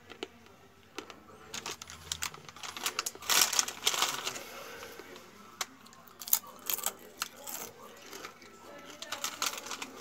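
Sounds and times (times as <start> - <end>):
foil chip packet crinkling: 1.0 - 10.0.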